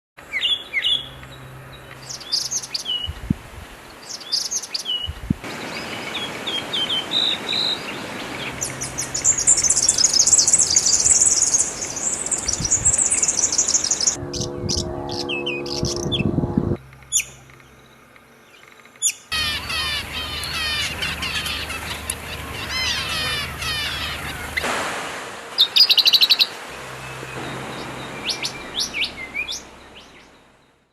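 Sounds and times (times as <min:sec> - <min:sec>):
birds chirping: 0:00.2 - 0:24.7, 0:25.4 - 0:30.9.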